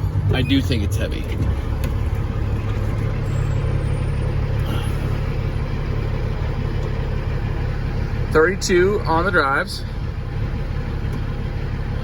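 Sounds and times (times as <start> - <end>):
diesel truck idling: 0.0 - 12.0.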